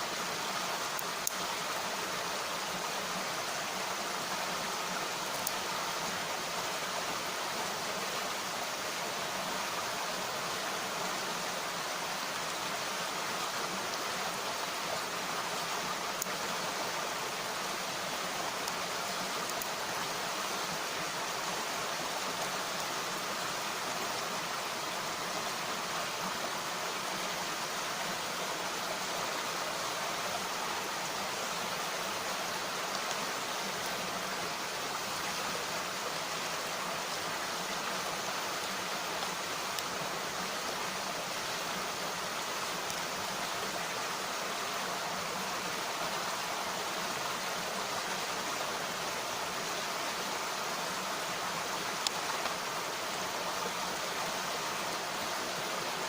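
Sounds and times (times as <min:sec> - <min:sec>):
stream water rushing and babbling: 0:00.0 - 0:56.0.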